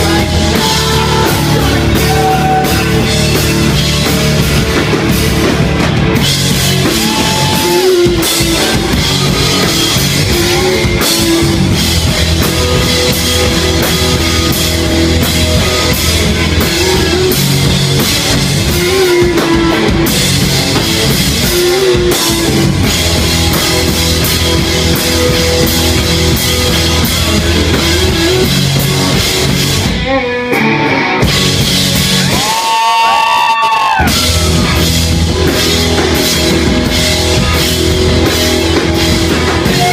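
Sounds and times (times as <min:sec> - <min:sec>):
rock music with drums and guitars: 0:00.0 - 0:39.9.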